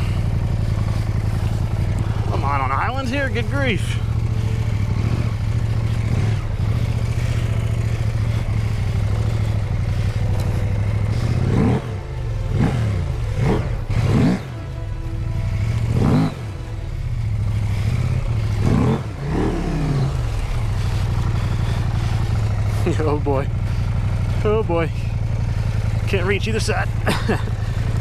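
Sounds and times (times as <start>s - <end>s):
motorbike engine idling and revving: 0.0s - 28.0s.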